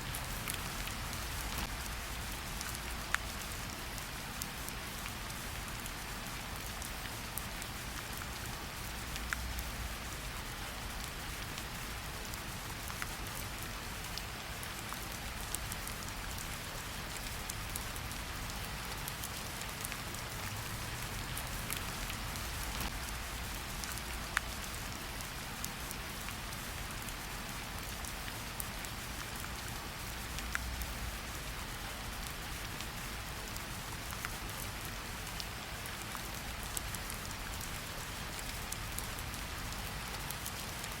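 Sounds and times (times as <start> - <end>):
rain falling in a forest: 0.0 - 41.0.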